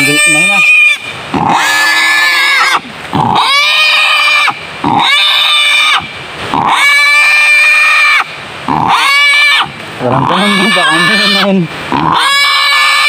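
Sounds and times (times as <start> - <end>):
wild boar squealing: 0.0 - 13.0.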